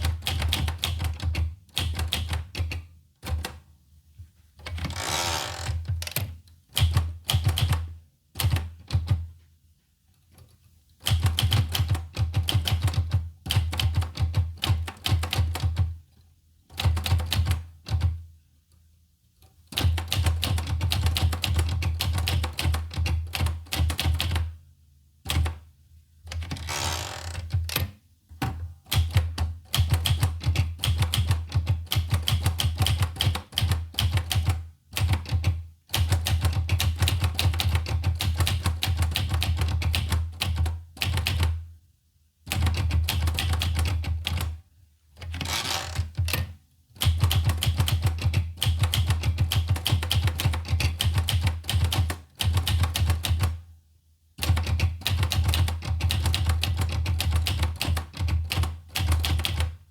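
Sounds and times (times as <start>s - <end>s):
manual typewriter typing: 0.0s - 3.6s, 4.7s - 9.2s, 11.0s - 15.9s, 16.7s - 18.2s, 19.7s - 24.5s, 28.9s - 41.6s, 42.5s - 44.6s, 45.2s - 53.6s, 54.4s - 59.8s.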